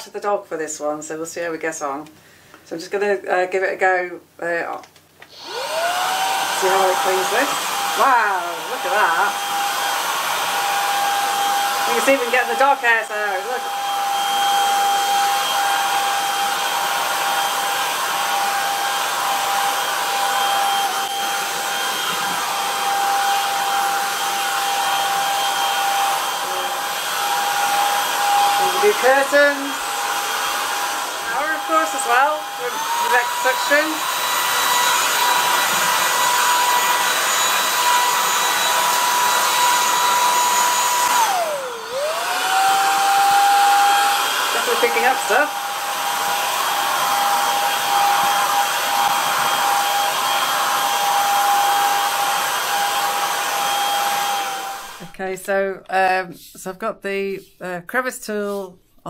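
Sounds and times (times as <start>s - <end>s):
stick vacuum running: 5.2s - 55.1s.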